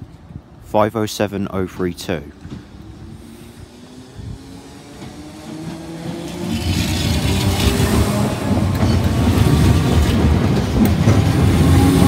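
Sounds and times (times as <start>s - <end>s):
train wheels rumbling and hissing: 2.3s - 12.0s.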